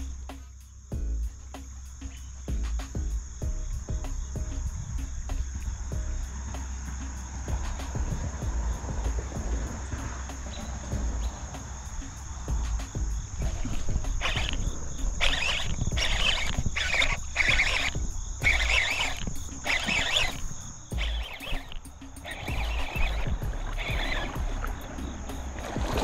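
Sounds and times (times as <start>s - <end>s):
high insect buzz: 0.0s - 26.0s
short rasping bursts: 1.5s - 25.6s
wind rumbling on microphone: 2.4s - 26.0s.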